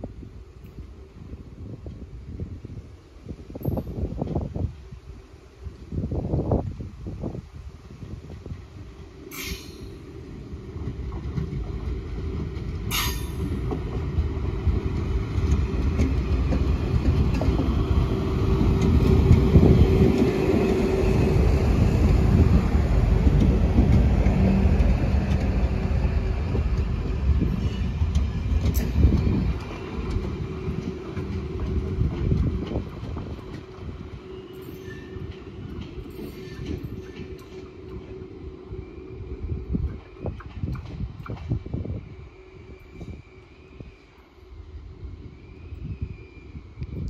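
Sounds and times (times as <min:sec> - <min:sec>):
passenger train rumbling past: 0:00.0 - 0:47.0
steady train hum: 0:00.0 - 0:47.0.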